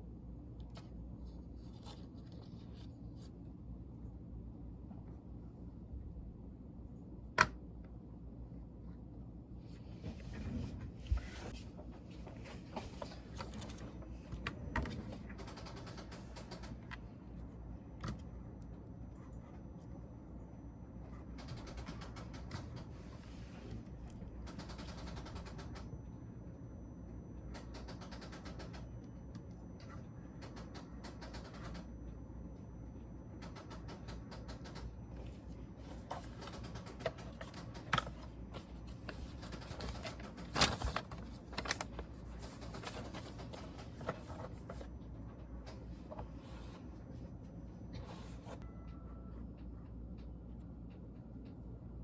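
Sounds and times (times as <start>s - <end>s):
low steady hum: 0.0s - 24.8s, 25.5s - 27.9s, 28.7s - 52.0s.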